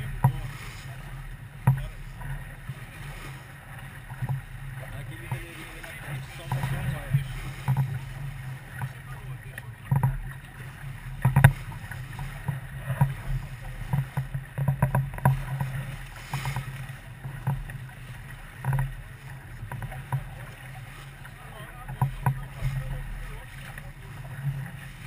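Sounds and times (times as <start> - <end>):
knocks and slaps on boat: 0.0 - 25.0.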